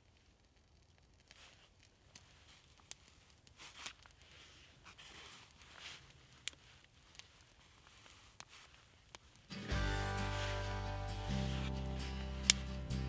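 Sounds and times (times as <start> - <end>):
small fire crackling: 0.0 - 13.0
twigs rustling: 0.0 - 13.0
twigs snapping: 0.9 - 9.6, 11.2 - 13.0.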